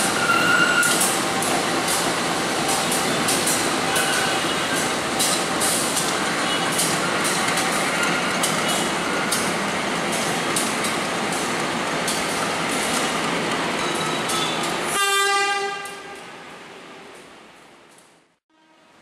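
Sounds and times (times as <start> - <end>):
train noise: 0.0 - 18.1.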